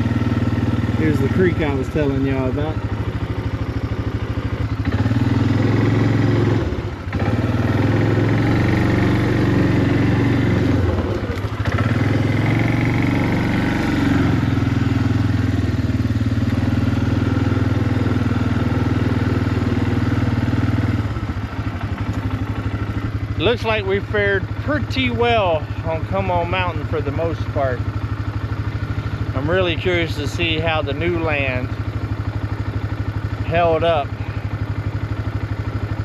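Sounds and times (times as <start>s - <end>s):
small vehicle engine running: 0.0s - 36.0s.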